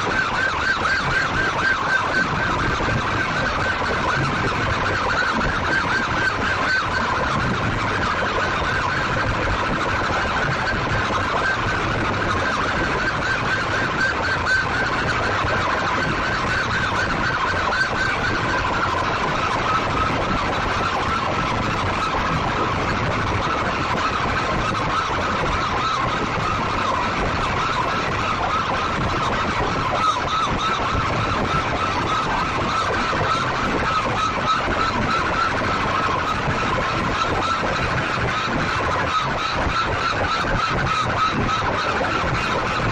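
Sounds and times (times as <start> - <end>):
siren-like wail from loudspeakers: 0.0 - 42.9.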